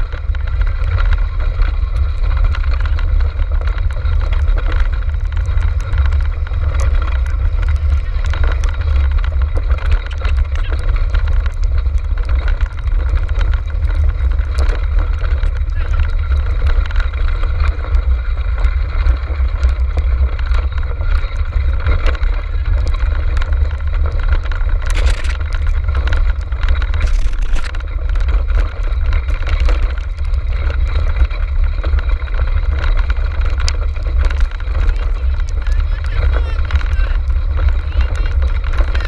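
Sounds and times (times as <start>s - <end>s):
low rumble of travel and wind: 0.0s - 39.0s
rattles and clicks: 0.0s - 39.0s.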